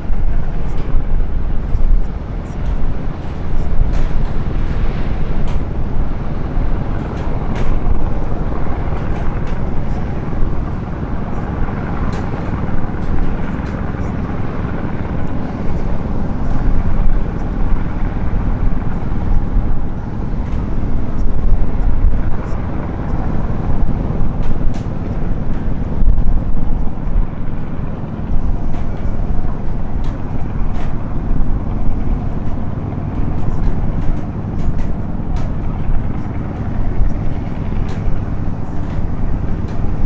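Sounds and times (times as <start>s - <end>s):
ship diesel engines rumbling: 0.0s - 40.0s.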